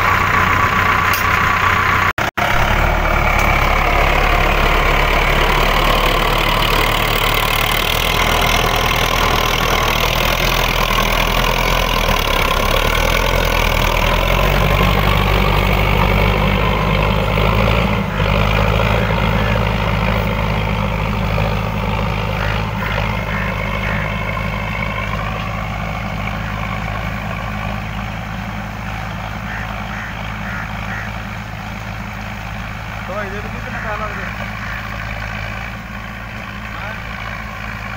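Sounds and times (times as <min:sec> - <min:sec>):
diesel tractor engine under load: 0:00.0 - 0:37.9.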